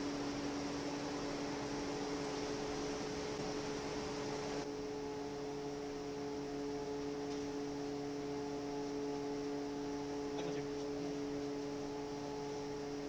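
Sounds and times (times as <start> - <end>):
equipment hum: 0.0 - 13.0.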